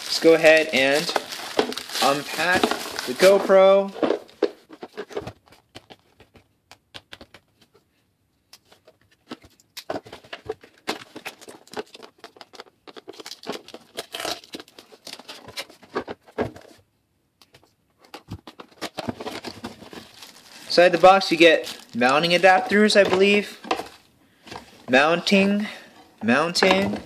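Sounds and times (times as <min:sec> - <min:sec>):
plastic and cardboard packaging crackling: 0:00.0 - 0:06.4, 0:09.2 - 0:16.8, 0:18.0 - 0:27.0.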